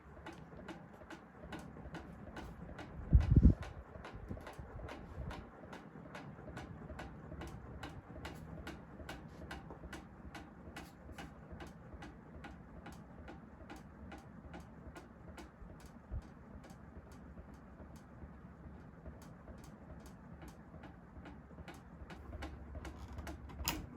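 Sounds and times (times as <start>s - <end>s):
ceiling fan humming and ticking: 0.0s - 23.9s.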